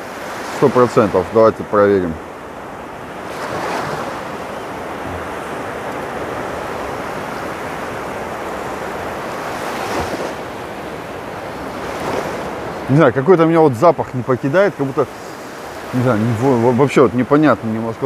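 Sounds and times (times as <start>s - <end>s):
small waves breaking: 0.0s - 18.0s.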